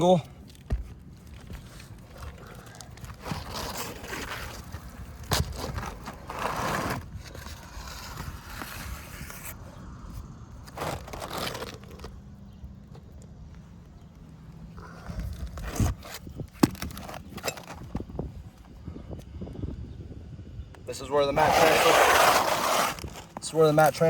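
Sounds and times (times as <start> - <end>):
roof shingles scraping and crunching: 0.0 - 9.6, 10.6 - 18.6, 21.0 - 24.0.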